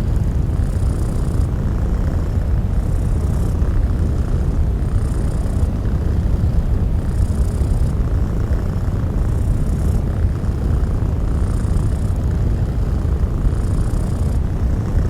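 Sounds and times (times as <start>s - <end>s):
bass-heavy pink noise: 0.0s - 15.0s
cat purring: 0.0s - 15.0s.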